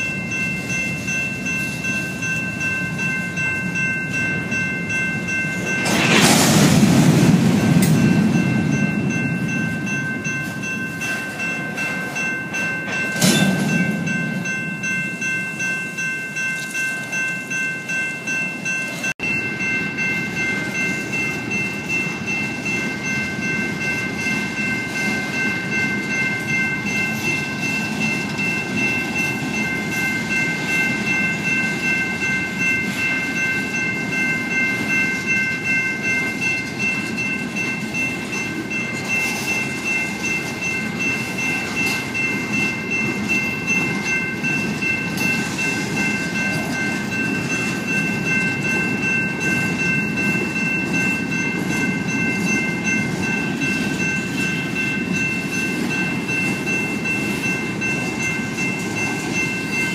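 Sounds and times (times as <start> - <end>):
freight train cars rumbling: 0.0 - 59.9
railroad crossing bells ringing: 0.0 - 59.9.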